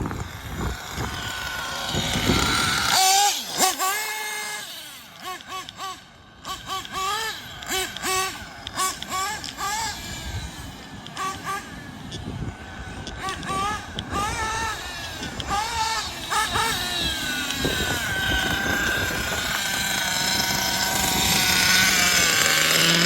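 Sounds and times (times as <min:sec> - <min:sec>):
rc car nitro engine revving: 0:00.0 - 0:23.0.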